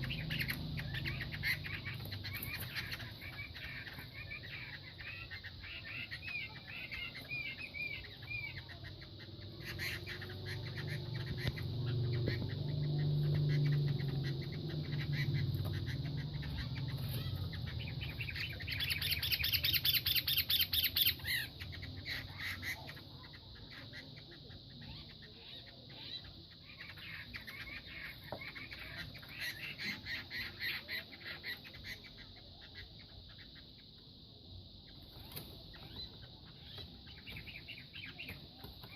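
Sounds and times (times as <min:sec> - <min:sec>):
roosters clucking and chirping: 0:00.0 - 0:38.9.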